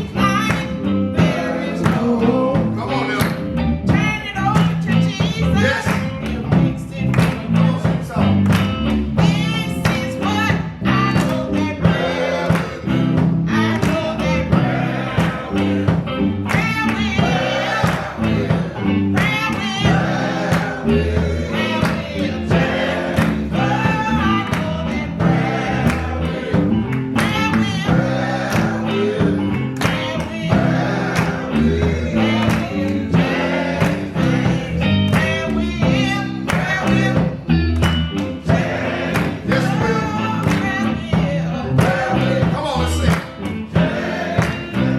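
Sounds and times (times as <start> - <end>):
bass: 0.0 - 44.9
gospel singing: 0.0 - 44.9
guitar: 0.0 - 44.9
steady beat: 0.6 - 44.9.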